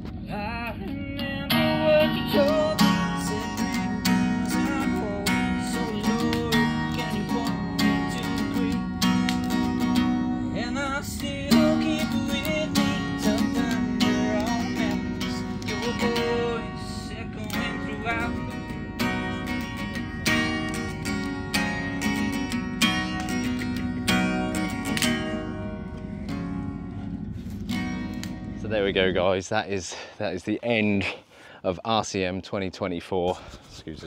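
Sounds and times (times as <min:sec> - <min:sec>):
strummed acoustic guitar music: 0:00.0 - 0:29.1.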